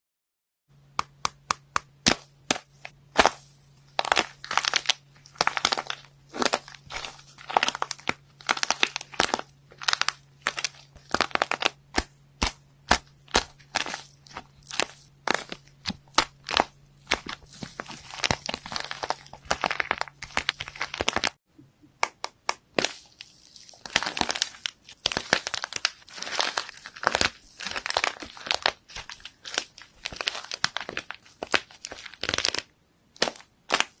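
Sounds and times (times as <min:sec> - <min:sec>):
slime popping and crackling: 0:02.0 - 0:21.4, 0:22.5 - 0:34.0.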